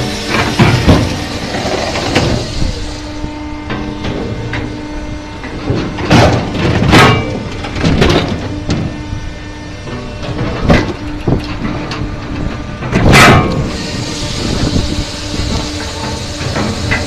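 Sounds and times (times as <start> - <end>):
log splitter motor hum: 0.0 - 17.0.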